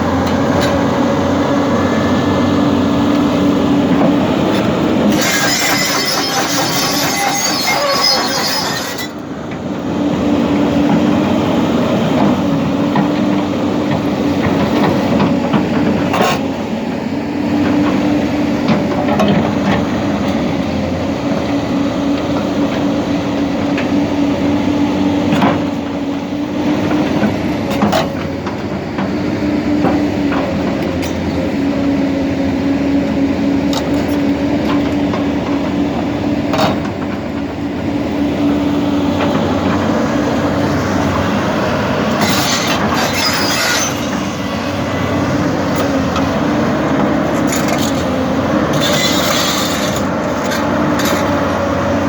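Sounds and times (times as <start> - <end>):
excavator diesel engine: 0.0 - 52.0.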